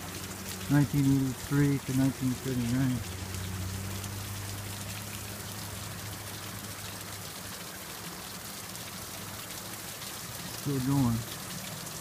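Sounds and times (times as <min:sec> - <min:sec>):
water rushing over falls: 0:00.0 - 0:12.0.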